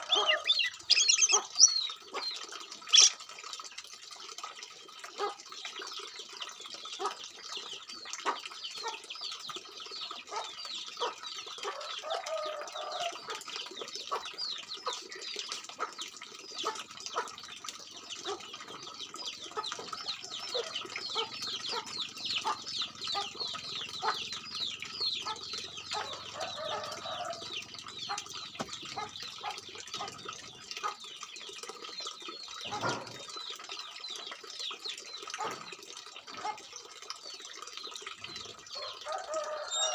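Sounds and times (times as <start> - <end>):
songbirds chirping: 0.0 - 3.3, 4.6 - 39.9.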